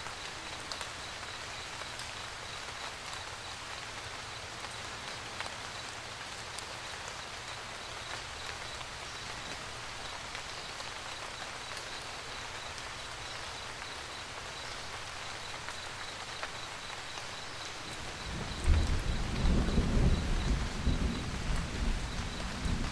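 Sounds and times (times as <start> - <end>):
rain pattering on a roof: 0.0 - 22.9.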